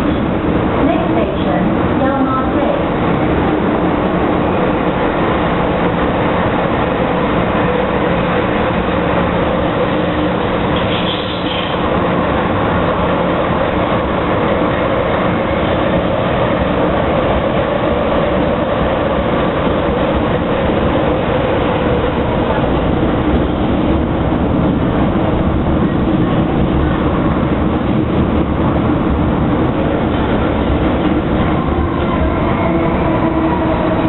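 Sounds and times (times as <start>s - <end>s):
train running noise with hum: 0.0s - 34.0s.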